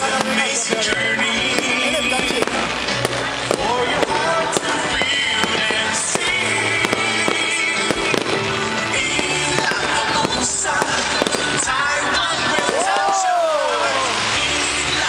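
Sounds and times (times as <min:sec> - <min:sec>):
fireworks cracking and popping: 0:00.0 - 0:15.0
loud show music: 0:00.0 - 0:15.0.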